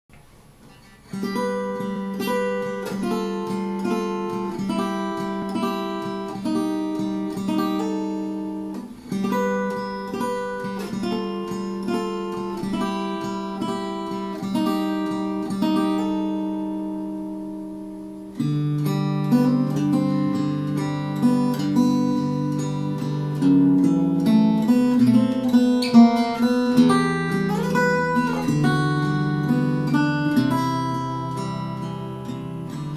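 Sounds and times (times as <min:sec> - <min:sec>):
fingerpicked acoustic guitar: 0:00.1 - 0:32.9.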